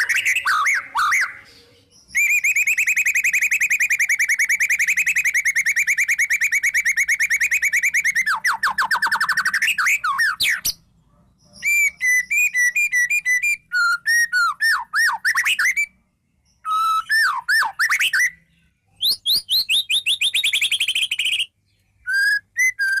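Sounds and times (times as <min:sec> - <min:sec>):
songbird singing whistled notes: 0:00.0 - 0:23.0.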